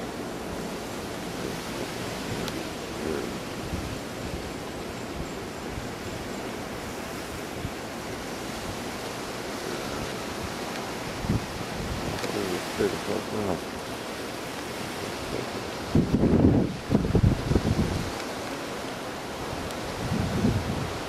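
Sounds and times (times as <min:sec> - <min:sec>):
strong wind through trees: 0:00.0 - 0:21.0.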